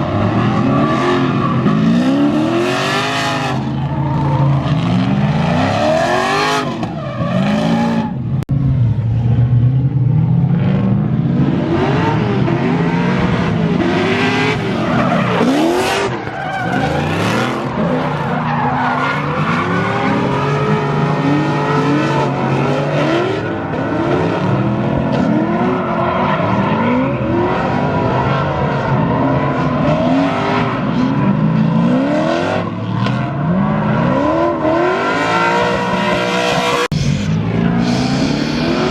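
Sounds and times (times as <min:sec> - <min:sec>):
tyres squealing and skidding: 0:00.0 - 0:08.3, 0:13.2 - 0:38.9
car engines revving: 0:00.0 - 0:38.9.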